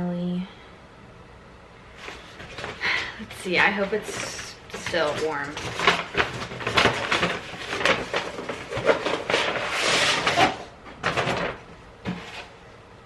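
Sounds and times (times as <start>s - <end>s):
bag and packaging rustling: 2.0s - 12.6s.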